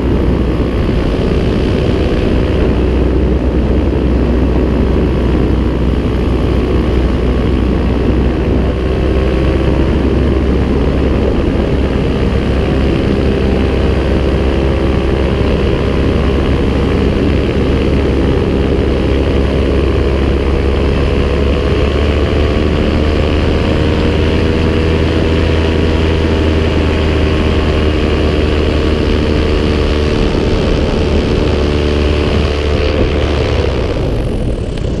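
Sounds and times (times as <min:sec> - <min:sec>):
paramotor engine and propeller: 0:00.0 - 0:35.0.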